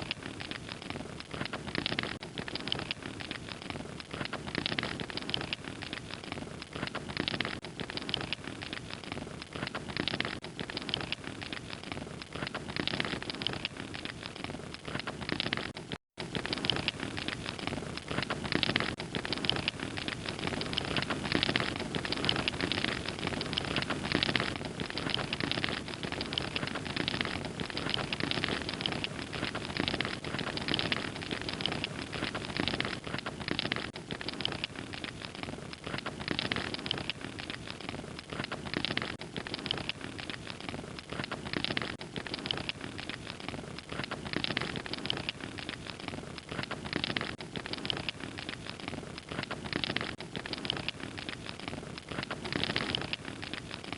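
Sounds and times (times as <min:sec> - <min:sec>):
log fire crackling: 0:00.0 - 0:53.9.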